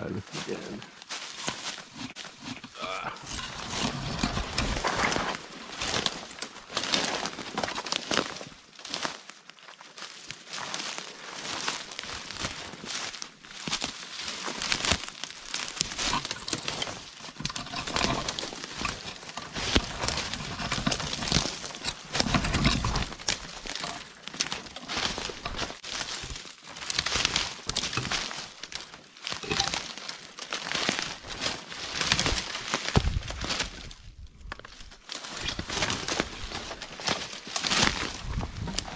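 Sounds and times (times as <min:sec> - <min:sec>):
footsteps crunching through dry leaves: 0:00.0 - 0:38.9.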